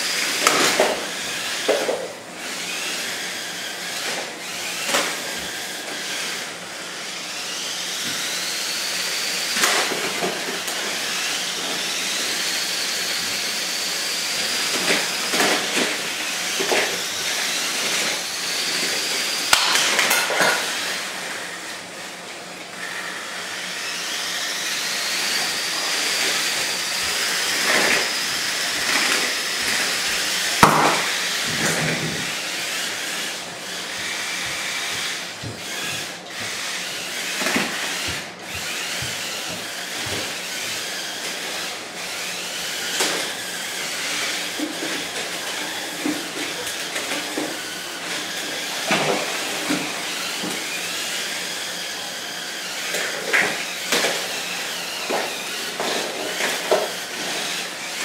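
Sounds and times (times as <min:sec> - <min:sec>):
small electric motors whining: 0:00.0 - 0:58.0.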